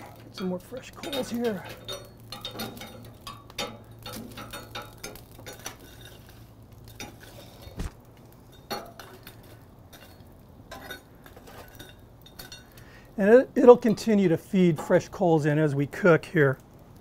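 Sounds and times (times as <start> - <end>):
coals clinking and scraping: 0.0 - 17.0.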